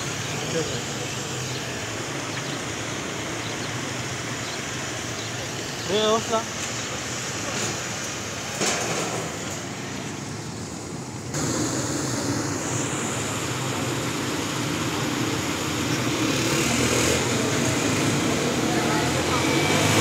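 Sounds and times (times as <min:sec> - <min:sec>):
small motorcycle engines running: 0:00.0 - 0:09.7, 0:11.4 - 0:20.0.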